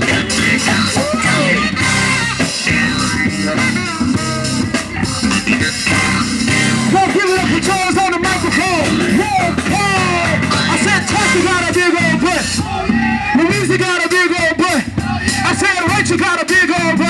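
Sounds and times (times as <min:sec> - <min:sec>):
band playing funk: 0:00.0 - 0:17.0.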